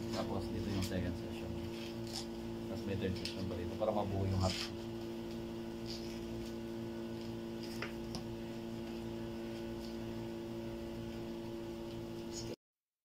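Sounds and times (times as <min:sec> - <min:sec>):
low electrical hum: 0:00.0 - 0:12.6.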